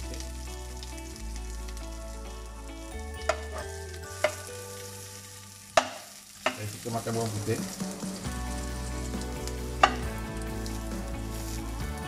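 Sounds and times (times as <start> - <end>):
garlic frying in oil: 0.0 - 12.0.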